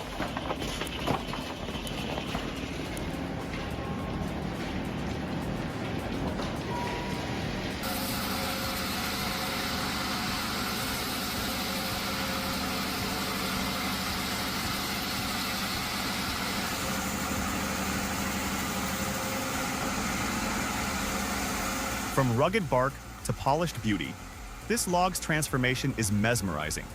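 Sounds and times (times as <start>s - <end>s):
machine engine running: 0.0s - 26.9s.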